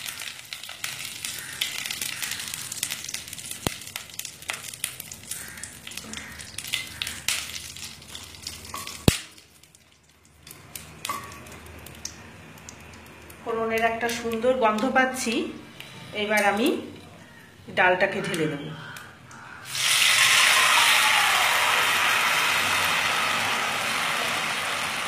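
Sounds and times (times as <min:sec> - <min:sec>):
spices sizzling in hot oil: 0:00.0 - 0:16.9, 0:19.6 - 0:25.0.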